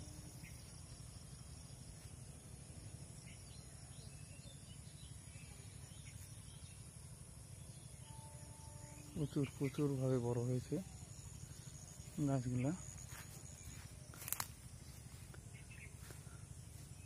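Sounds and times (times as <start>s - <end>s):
faint bird chirps: 0.0s - 17.0s
high insect drone: 0.0s - 17.0s.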